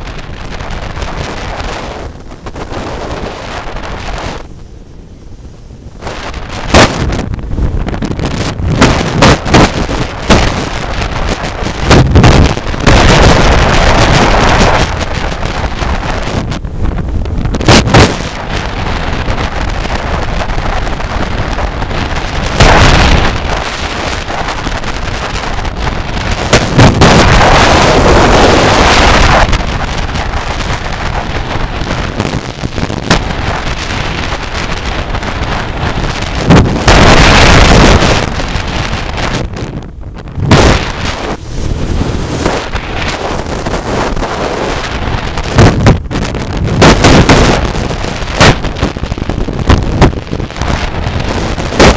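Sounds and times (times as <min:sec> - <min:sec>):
road and engine noise: 0:00.0 - 0:51.9
wind buffeting microphone: 0:00.0 - 0:51.9.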